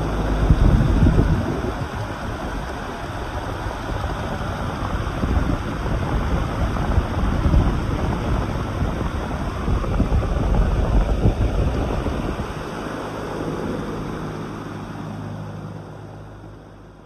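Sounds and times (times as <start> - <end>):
electric fan blowing: 0.0 - 17.0.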